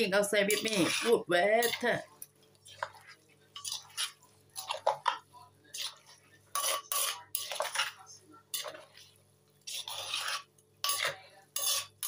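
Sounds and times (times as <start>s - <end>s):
spoon scraping clay mortar: 0.5s - 12.0s.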